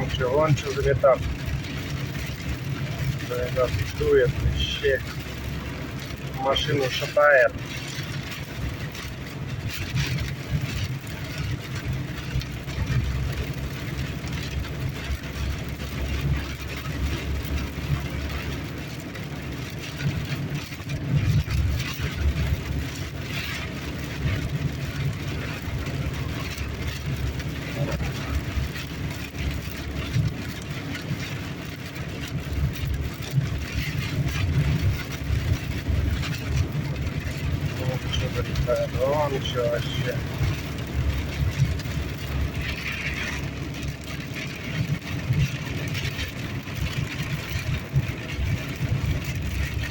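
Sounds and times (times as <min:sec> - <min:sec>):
wind buffeting a car: 0:00.0 - 0:49.9.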